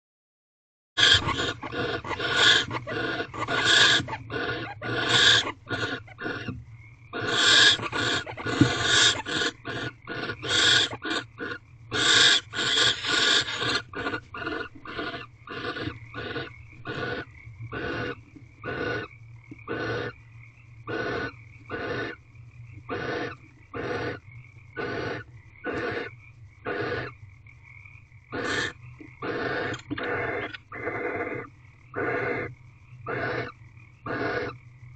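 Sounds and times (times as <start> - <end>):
barn owls calling: 1.0 - 20.2, 20.9 - 22.2, 22.8 - 24.2, 24.8 - 27.2, 28.3 - 34.6
steady low hum: 1.0 - 34.9.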